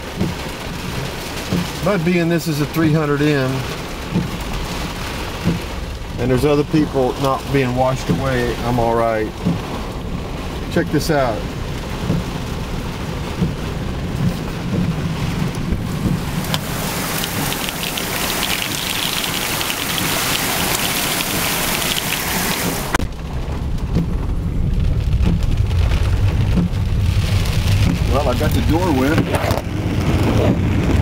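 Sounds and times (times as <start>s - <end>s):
floodwater rushing around car: 0.0s - 31.0s.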